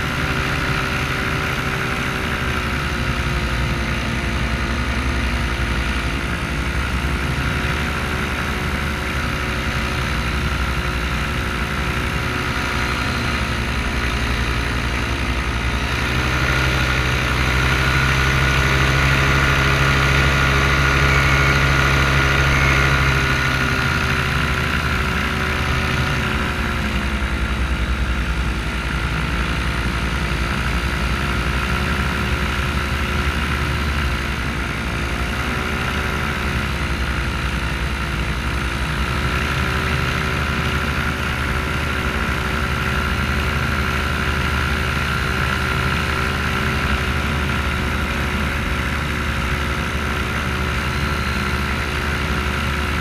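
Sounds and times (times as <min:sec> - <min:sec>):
paramotor engine and propeller: 0:00.0 - 0:53.0.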